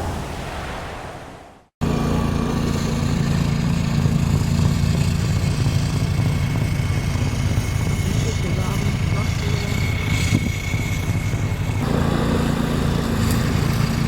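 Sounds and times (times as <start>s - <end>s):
engine running steadily: 1.8s - 14.0s.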